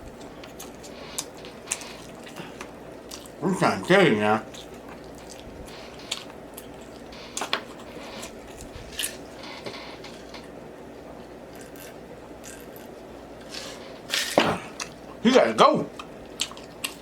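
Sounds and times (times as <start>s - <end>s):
person chewing food: 0.0s - 3.4s, 4.5s - 15.2s, 15.9s - 17.0s.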